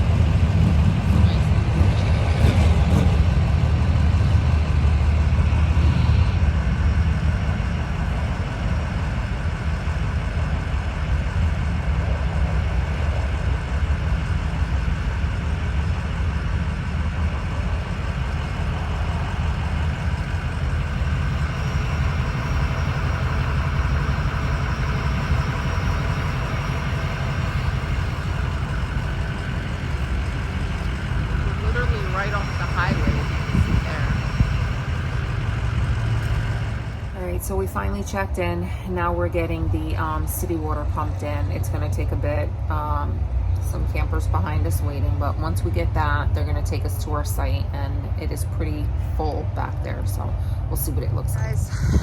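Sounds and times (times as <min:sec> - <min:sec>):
truck engine rumbling: 0:00.0 - 0:52.0.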